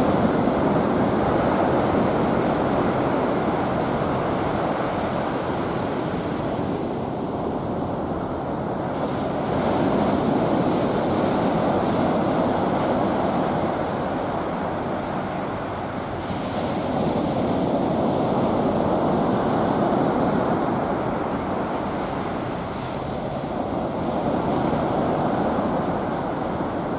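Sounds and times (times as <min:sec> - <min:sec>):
ocean surf washing ashore: 0:00.0 - 0:26.9.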